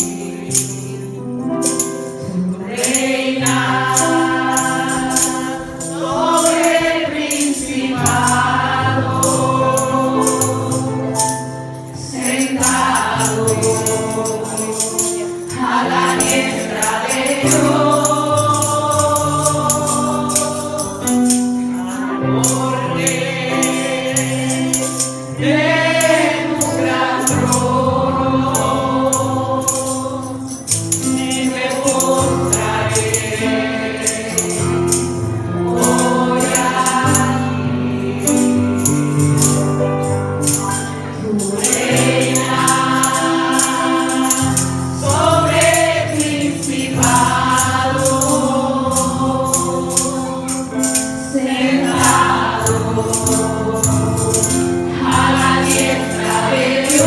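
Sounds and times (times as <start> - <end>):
congregation singing: 0.0 - 57.0
instrumental accompaniment: 0.0 - 57.0
tambourine shaken: 0.0 - 57.0.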